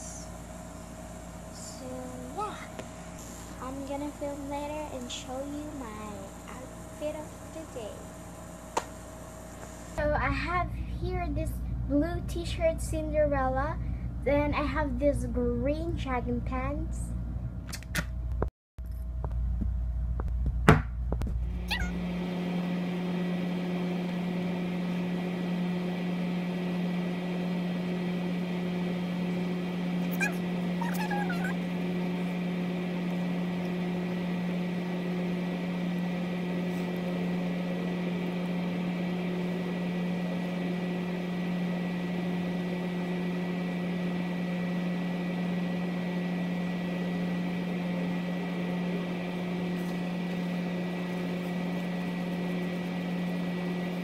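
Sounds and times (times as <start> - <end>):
air conditioner humming: 0.0 - 54.0.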